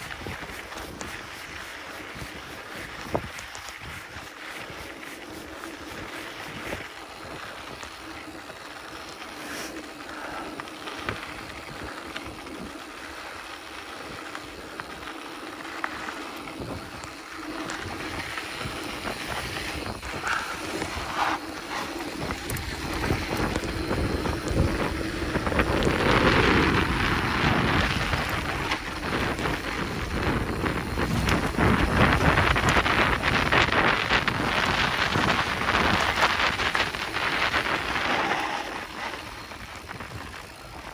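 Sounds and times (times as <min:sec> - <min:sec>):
bike tyre rumble: 0:00.0 - 0:40.9
wind buffeting microphone: 0:00.0 - 0:40.9.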